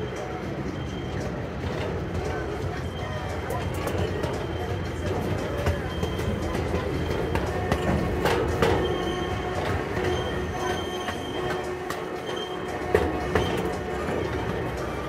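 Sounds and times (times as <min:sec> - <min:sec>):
high wheel squeal: 0:00.0 - 0:15.0
train wheels rumbling on track: 0:00.0 - 0:15.0.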